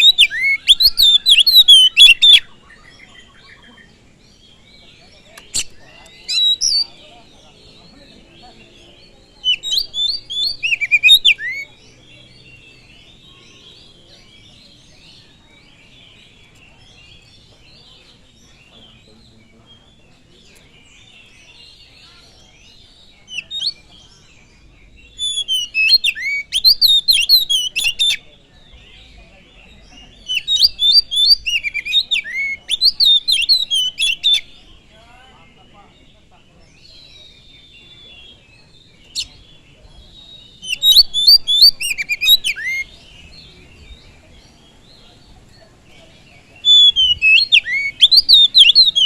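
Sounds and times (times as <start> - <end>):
faint high chatter: 0.0 - 49.0
magpie-robin singing: 0.0 - 49.0.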